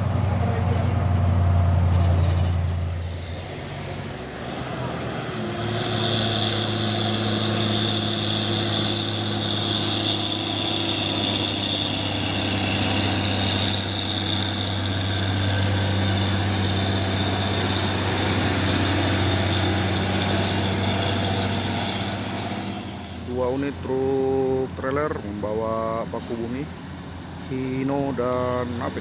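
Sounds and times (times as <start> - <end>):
high whine: 0.0 - 24.2
diesel truck engine running: 0.0 - 25.4.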